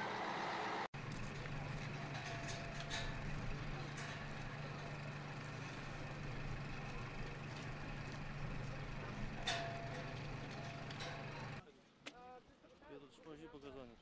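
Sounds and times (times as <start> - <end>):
vehicle engine humming: 0.0 - 11.6
outdoor background noise: 0.0 - 14.0.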